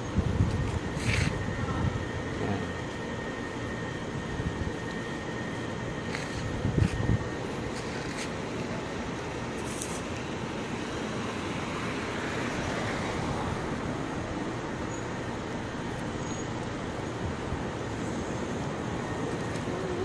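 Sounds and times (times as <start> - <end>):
street noise rumble: 0.0 - 20.0.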